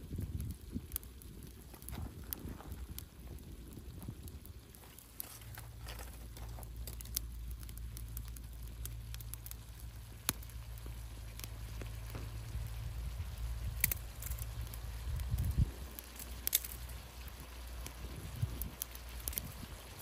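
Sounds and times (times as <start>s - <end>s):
low rumble: 0.0s - 16.5s
sharp crackles and pops: 0.0s - 20.0s.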